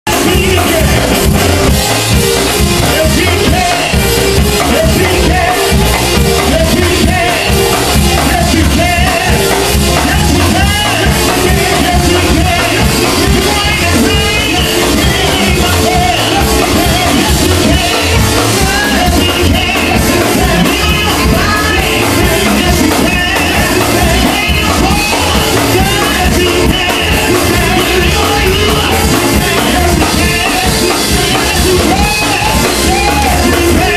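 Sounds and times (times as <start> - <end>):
gospel band with singing: 0.0 - 33.9.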